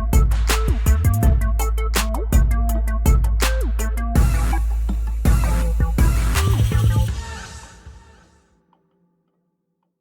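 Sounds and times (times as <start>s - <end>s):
background music with heavy bass beat: 0.0s - 8.4s.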